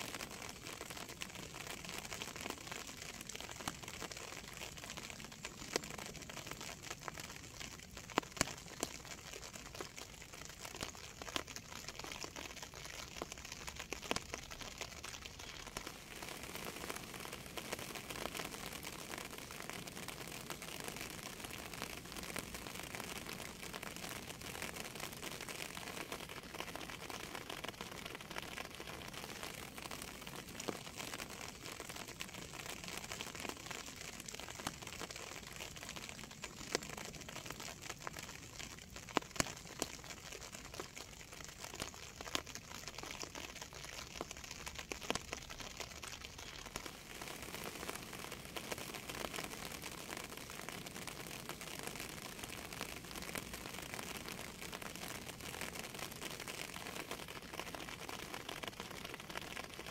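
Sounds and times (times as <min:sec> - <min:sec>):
raindrops ticking on surface: 0:00.0 - 0:59.9
steady rain hiss: 0:00.0 - 0:59.9.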